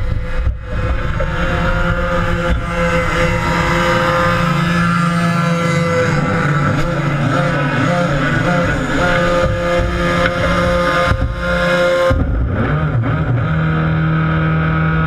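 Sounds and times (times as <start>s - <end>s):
kart engines droning: 0.0s - 15.0s.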